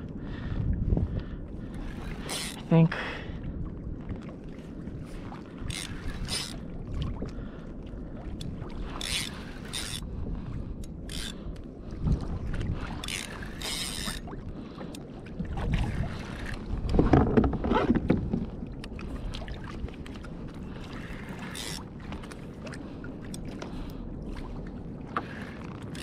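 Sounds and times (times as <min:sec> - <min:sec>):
water lapping against kayak hull: 0:00.0 - 0:26.0
wind buffeting microphone: 0:00.0 - 0:26.0.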